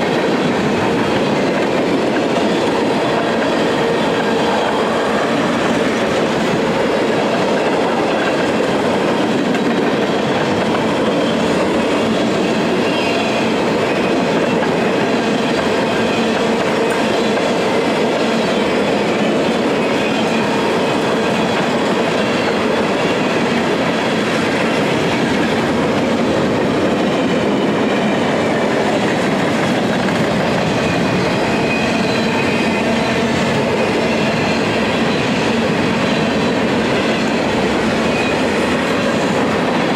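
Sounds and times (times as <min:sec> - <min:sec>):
train wheels rolling on rail: 0:00.0 - 0:39.9.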